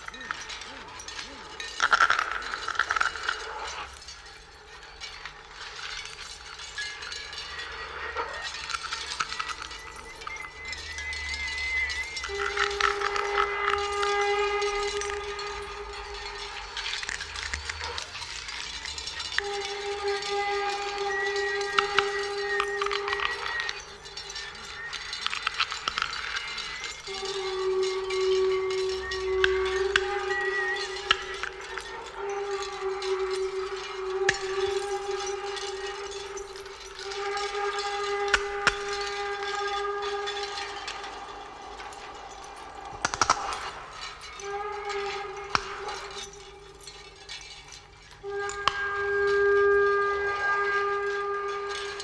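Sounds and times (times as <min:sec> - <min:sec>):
faint high whistled tone: 0:00.0 - 0:52.0
instruments clicking and rattling: 0:00.0 - 0:52.0.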